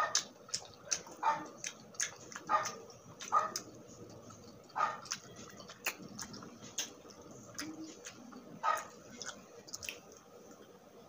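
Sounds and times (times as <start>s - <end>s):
close chewing: 0.0s - 10.8s
wet mouth clicks: 0.1s - 10.3s.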